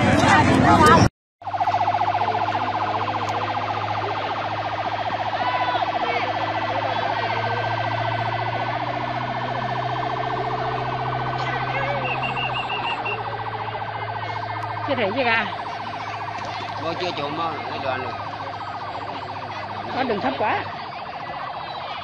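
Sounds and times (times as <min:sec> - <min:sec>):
outboard motor whining: 0:00.0 - 0:22.0.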